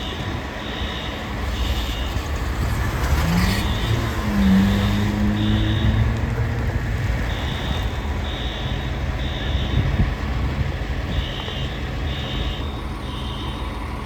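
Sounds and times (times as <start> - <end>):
engine rumbling: 0.0 - 14.0
vehicle backup alarm beeping: 0.0 - 14.0.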